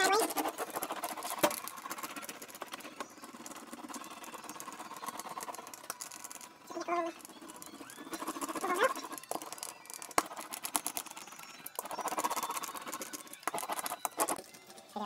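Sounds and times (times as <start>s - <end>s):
roller clicking and squeaking: 0.0s - 15.0s.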